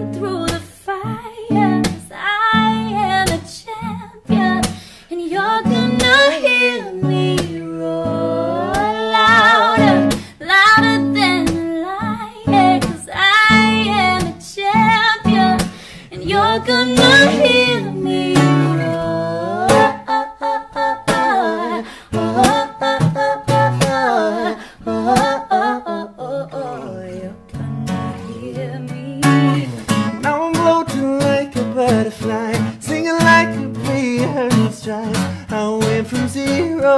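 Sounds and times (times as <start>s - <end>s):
strummed acoustic guitar: 0.0s - 36.9s.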